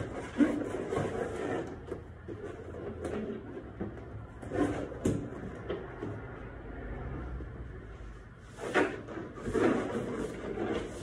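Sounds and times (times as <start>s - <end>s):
objects knocking and scraping: 0.0s - 6.5s, 8.4s - 11.0s.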